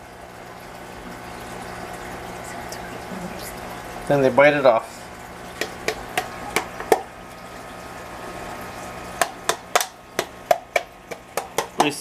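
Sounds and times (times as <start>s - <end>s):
aquarium water running: 0.0s - 12.0s
faint hum: 0.0s - 12.0s.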